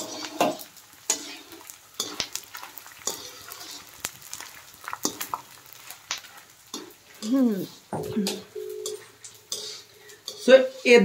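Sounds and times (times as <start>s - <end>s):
gum sizzling in hot oil: 0.0s - 11.0s.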